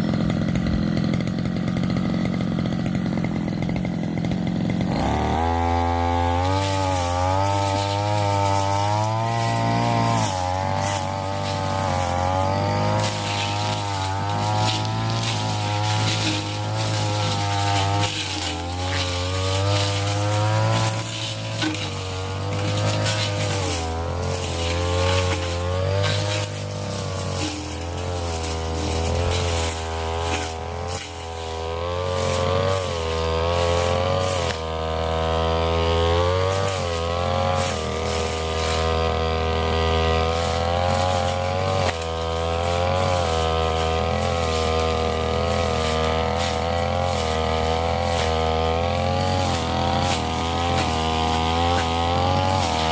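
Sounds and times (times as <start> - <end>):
brush cutter engine cutting brush: 0.0 - 52.9.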